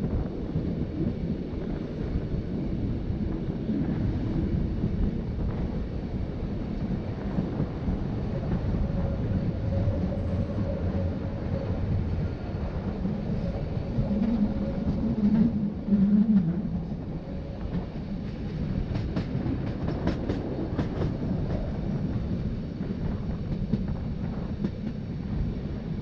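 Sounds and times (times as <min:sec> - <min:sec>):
electric train rumbling on track: 0:00.0 - 0:26.0.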